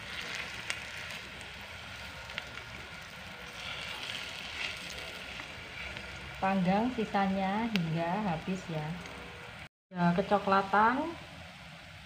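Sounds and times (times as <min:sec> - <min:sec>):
patties sizzling in a pan: 0:00.0 - 0:09.7.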